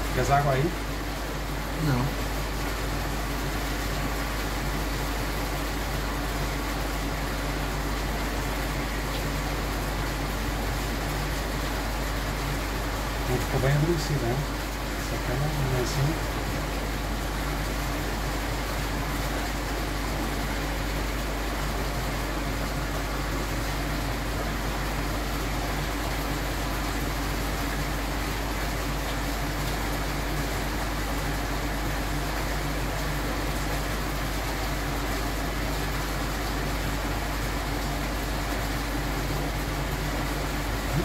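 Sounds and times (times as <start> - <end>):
low electrical hum: 0.0 - 41.0.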